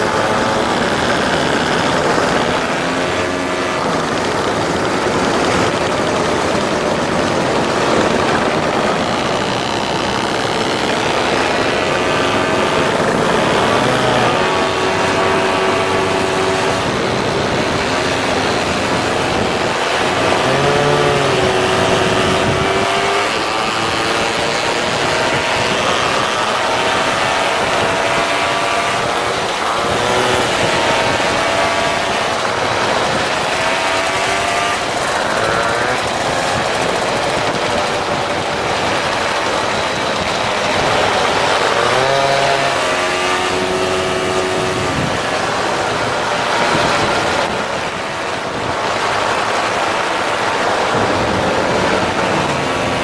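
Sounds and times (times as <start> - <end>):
moped engines revving: 0.0 - 53.0
steady noisy rush: 0.0 - 53.0.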